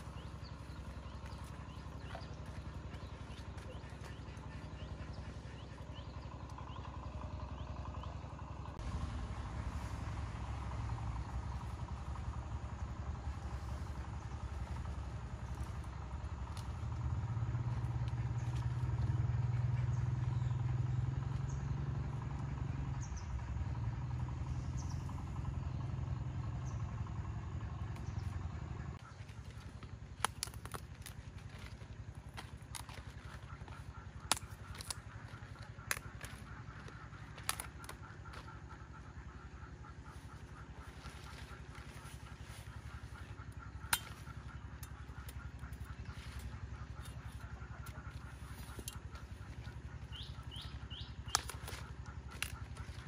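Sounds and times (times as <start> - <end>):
engine running with low hum: 0.0 - 53.0.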